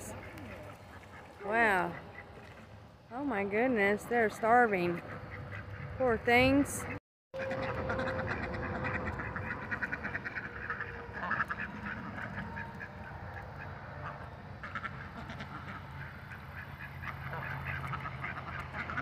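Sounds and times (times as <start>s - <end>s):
ducks quacking: 0.0s - 2.7s, 3.4s - 19.0s.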